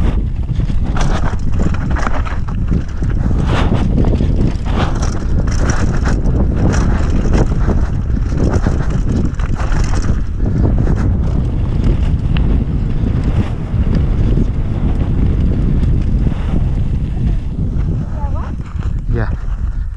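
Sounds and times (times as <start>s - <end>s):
bike rattling over stones: 0.0s - 19.9s
steady rumble: 0.0s - 19.9s
wind buffeting microphone: 0.0s - 19.9s.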